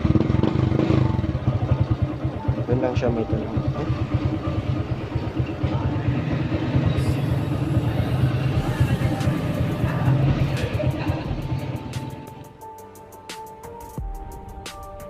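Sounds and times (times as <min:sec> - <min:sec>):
motorcycle exhaust pulsing: 0:00.0 - 0:12.6.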